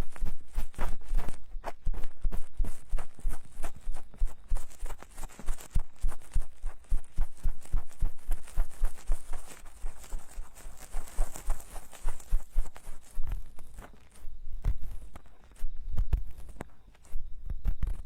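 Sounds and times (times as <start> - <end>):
soft low thumps: 0.0 - 18.0.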